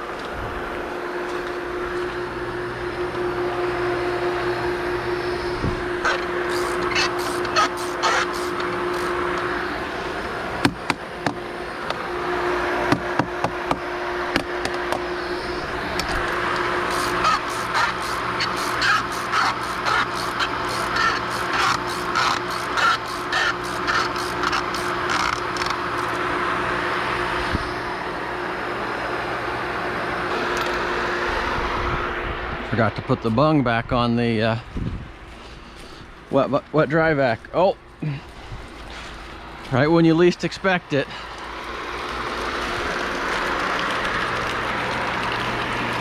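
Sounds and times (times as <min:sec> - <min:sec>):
pool pump humming and rushing: 0:00.0 - 0:33.6, 0:34.2 - 0:46.0.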